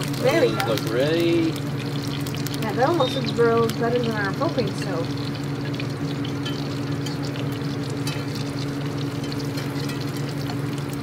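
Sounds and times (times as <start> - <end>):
low machine hum: 0.0 - 11.0
sausages sizzling in a skillet: 0.0 - 11.0
wood fire crackling: 0.0 - 11.0.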